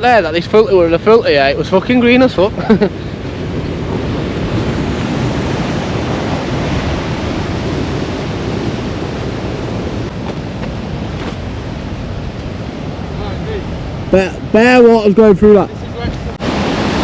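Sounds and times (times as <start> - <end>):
rushing water flow: 0.0 - 17.0
wind on microphone: 0.0 - 17.0.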